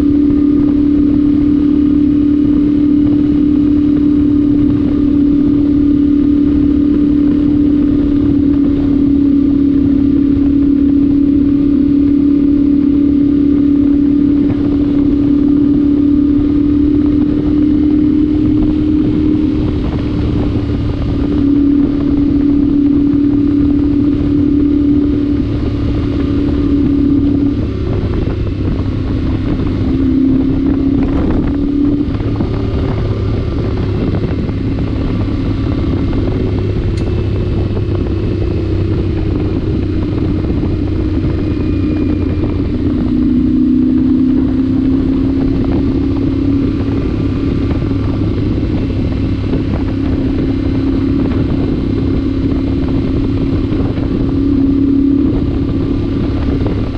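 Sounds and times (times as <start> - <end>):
motorcycle engine cruising: 0.0 - 56.9
wind rushing: 0.0 - 56.9.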